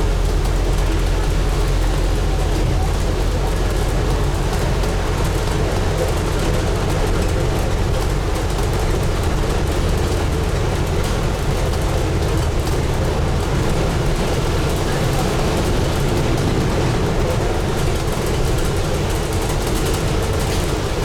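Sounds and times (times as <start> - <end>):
bus diesel engine droning: 0.0 - 21.0
road and body noise: 0.0 - 21.0.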